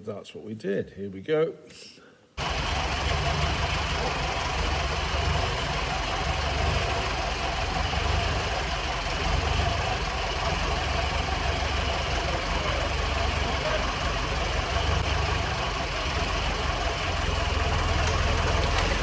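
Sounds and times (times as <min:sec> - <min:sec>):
engine running steadily: 0:02.4 - 0:19.0.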